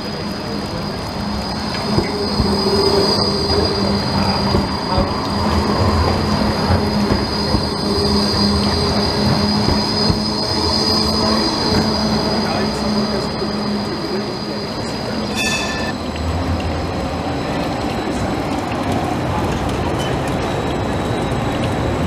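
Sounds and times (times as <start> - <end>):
tram running gear rumble: 0.0 - 22.0
tram wheels squealing on rails: 0.0 - 22.0.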